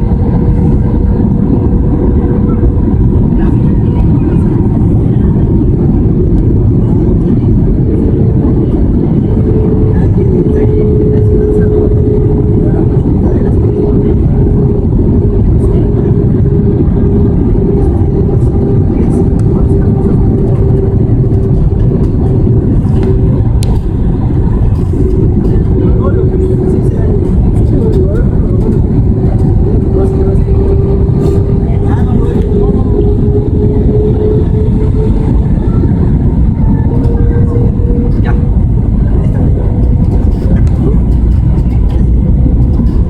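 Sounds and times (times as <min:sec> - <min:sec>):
airplane cabin engine rumble: 0:00.0 - 0:43.0
thin steady hum: 0:00.0 - 0:43.0.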